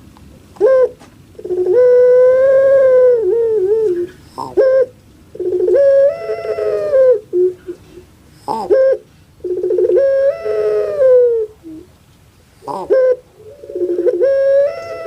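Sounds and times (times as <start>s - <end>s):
dove cooing: 0.6s - 11.9s, 12.6s - 15.0s.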